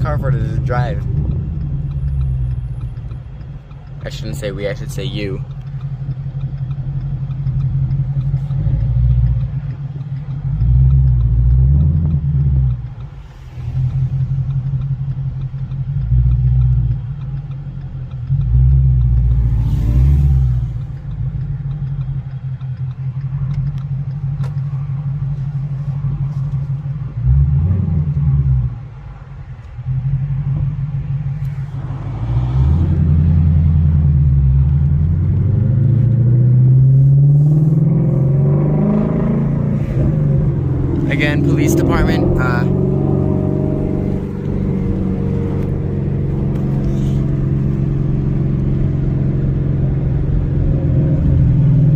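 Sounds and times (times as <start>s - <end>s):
car engine and exhaust rumbling: 0.0s - 51.9s.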